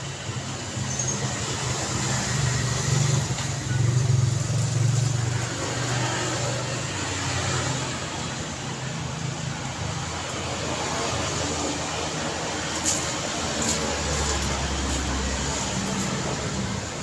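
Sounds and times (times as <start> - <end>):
busy street traffic: 0.0 - 17.0.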